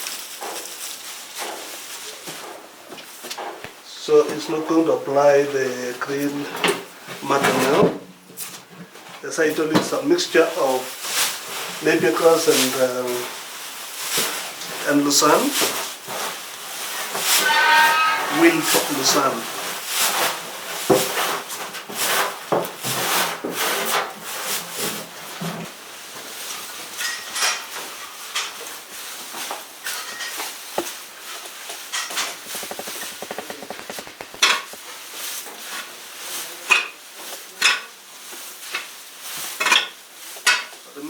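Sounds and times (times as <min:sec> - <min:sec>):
scraping and rustling of feed: 0:00.0 - 0:03.6, 0:10.4 - 0:40.8.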